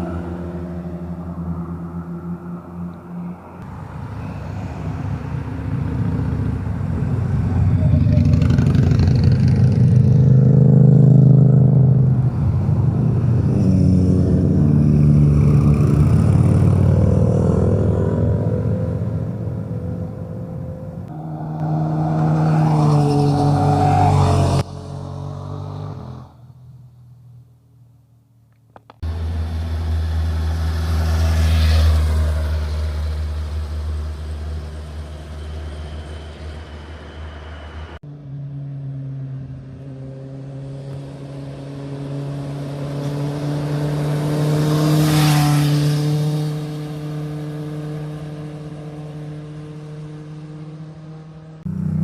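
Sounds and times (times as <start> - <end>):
motorcycles revving past: 0.0 - 26.4, 29.1 - 52.0.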